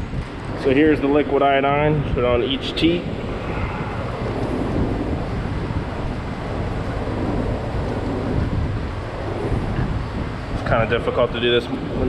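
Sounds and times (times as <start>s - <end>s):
milking machinery drone: 1.0s - 12.0s.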